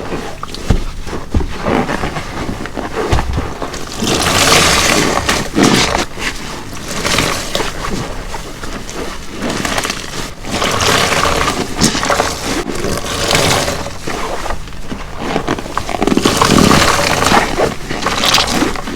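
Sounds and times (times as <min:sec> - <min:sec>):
wet sponge squelching: 0:00.0 - 0:18.9.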